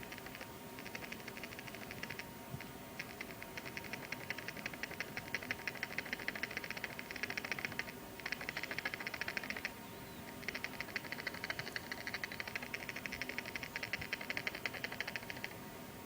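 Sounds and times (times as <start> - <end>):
fast high sharp clicks: 0.0 - 15.6.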